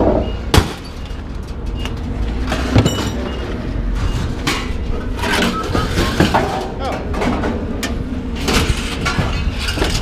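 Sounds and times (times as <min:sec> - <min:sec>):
metal clanks: 0:00.0 - 0:10.0.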